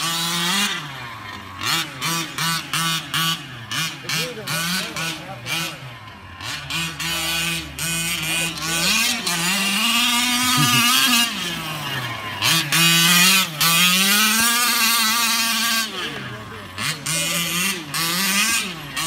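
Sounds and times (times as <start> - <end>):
small two-stroke engine revving: 0.0 - 19.0.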